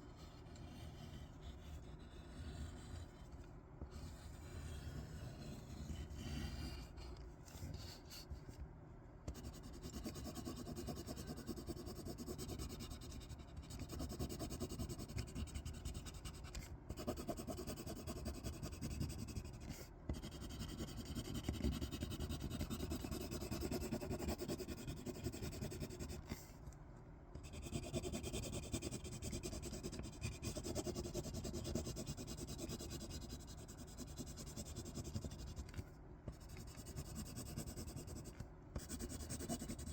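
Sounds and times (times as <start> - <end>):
scratching and rubbing on paper: 0.0 - 8.5, 9.3 - 26.6, 27.4 - 39.9.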